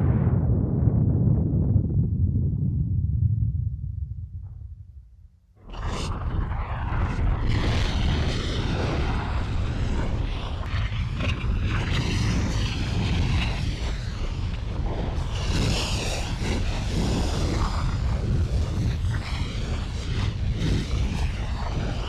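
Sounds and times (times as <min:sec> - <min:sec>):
deep volcanic rumble with hiss: 0:00.0 - 0:04.6, 0:05.6 - 0:22.0.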